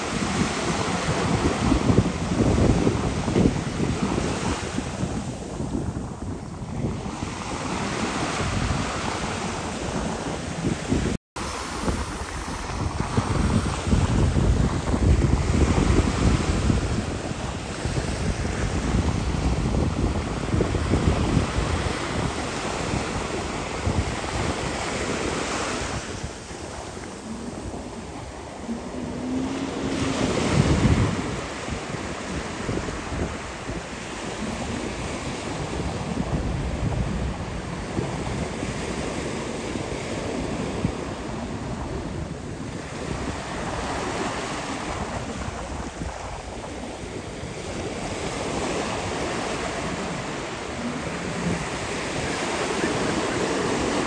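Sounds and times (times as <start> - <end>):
water rushing past jet ski: 0.0 - 54.0
wind buffeting microphone: 0.0 - 54.0.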